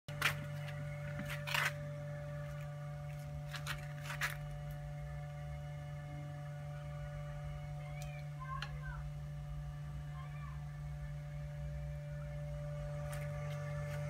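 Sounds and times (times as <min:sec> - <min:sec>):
faint high whine: 0:00.1 - 0:14.0
low electrical hum: 0:00.1 - 0:14.0.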